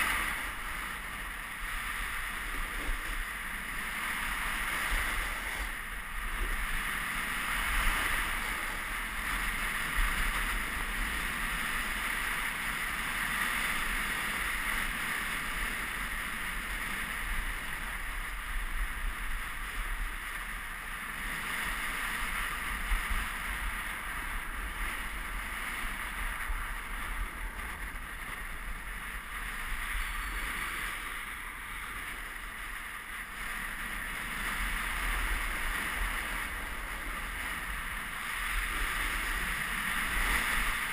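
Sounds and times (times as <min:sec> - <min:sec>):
board scraping snow: 0:00.0 - 0:40.9
snowboard hissing over snow: 0:00.0 - 0:40.9.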